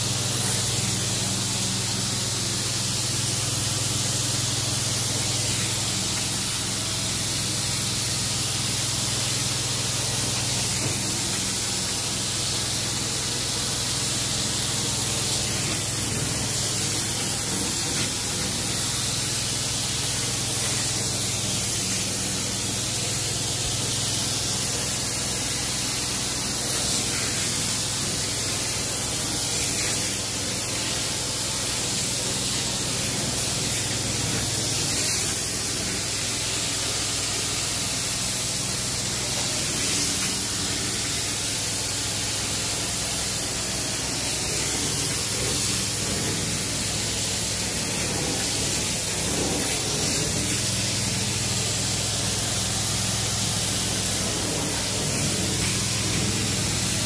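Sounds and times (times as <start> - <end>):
carpet cleaner suction hiss: 0.0 - 57.0.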